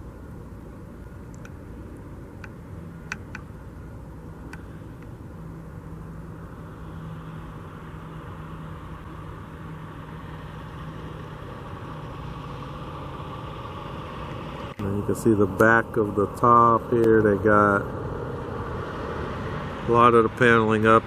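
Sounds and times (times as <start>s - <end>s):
road noise: 0.0s - 21.0s
vehicle engine hum: 0.0s - 21.0s.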